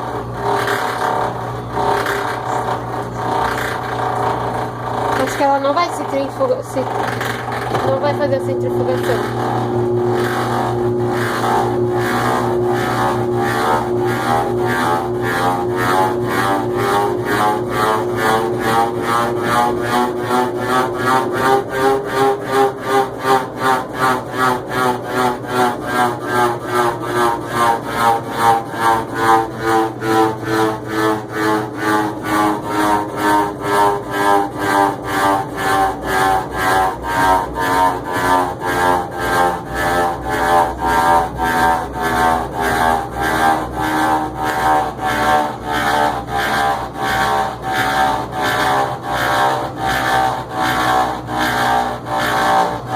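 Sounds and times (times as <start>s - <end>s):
rhythmic rubbing sound: 0.0s - 52.9s
washing machine motor hum: 0.0s - 52.9s.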